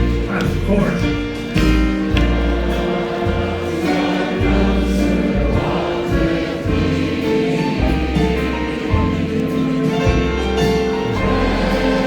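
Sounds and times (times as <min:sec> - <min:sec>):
bass line: 0:00.0 - 0:12.0
choir singing held chords: 0:00.0 - 0:12.0.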